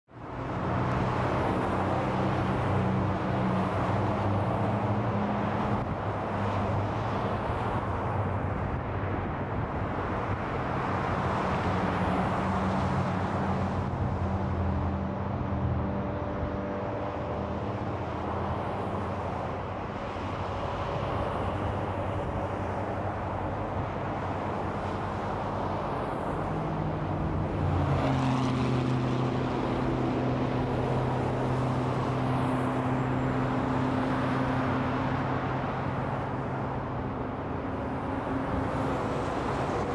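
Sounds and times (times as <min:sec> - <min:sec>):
highway traffic passing: 0:00.1 - 0:39.9
heavy vehicle engine: 0:00.2 - 0:39.9.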